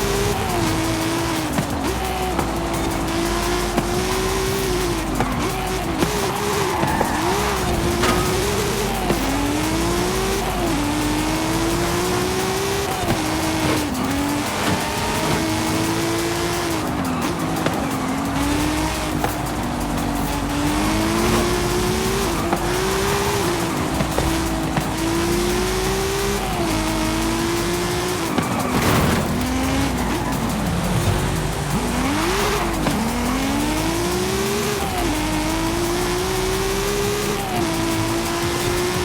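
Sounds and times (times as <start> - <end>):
car engine revving: 0.0 - 39.0
road and tyre noise: 0.0 - 39.0.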